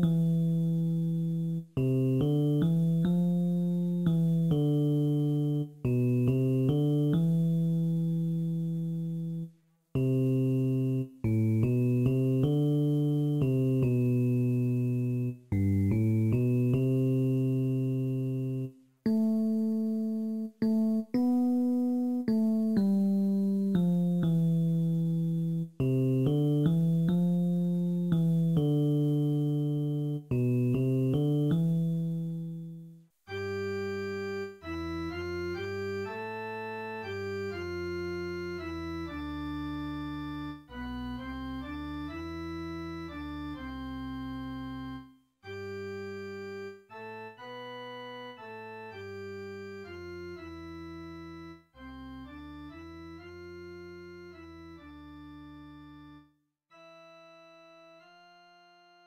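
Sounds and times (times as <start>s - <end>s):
slow instrumental chords: 0.0s - 56.1s.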